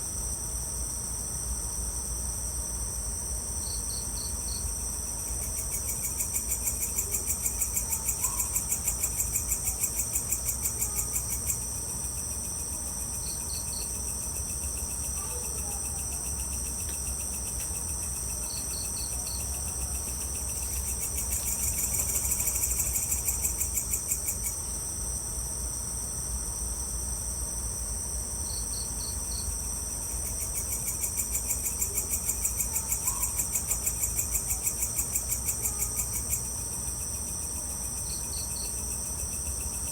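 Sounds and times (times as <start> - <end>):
insects buzzing: 0.0 - 39.9
rapid pulsing insect chirp: 0.1 - 39.9.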